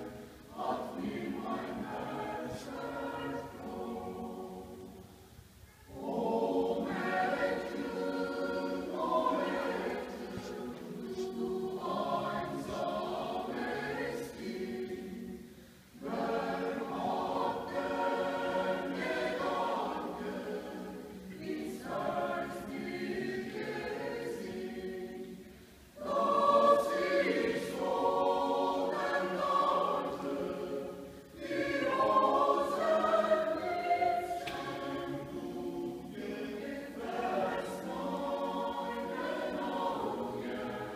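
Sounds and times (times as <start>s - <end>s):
mixed choir singing unaccompanied: 0.0s - 5.3s, 5.9s - 40.9s.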